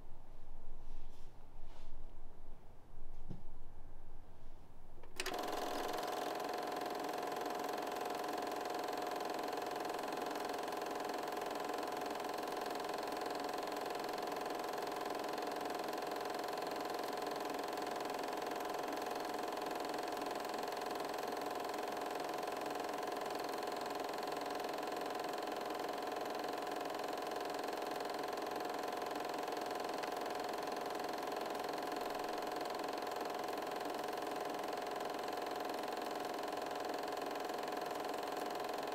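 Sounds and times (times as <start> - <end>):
film projector whirring: 5.0 - 38.9.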